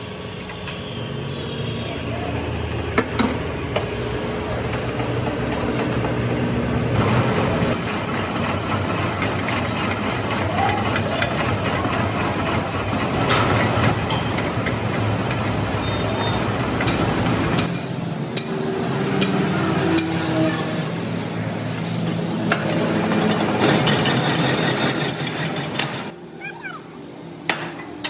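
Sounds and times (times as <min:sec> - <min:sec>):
heavy vehicle running: 0:00.0 - 0:28.0.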